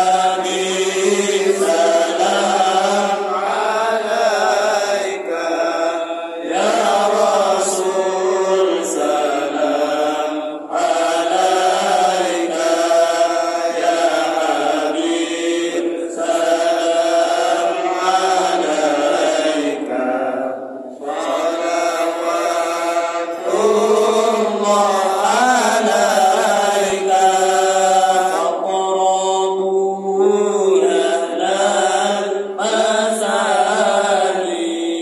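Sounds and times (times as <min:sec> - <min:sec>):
men chanting devotional praise: 0:00.0 - 0:35.0.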